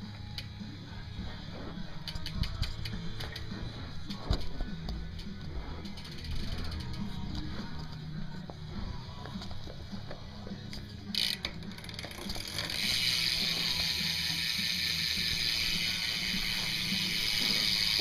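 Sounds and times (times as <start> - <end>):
bicycle freewheel ratcheting: 0.0 - 10.1, 10.7 - 18.0.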